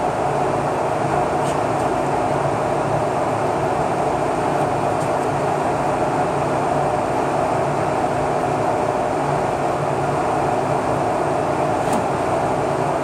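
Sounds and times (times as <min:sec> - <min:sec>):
mechanical drone with low hum: 0:00.0 - 0:13.0.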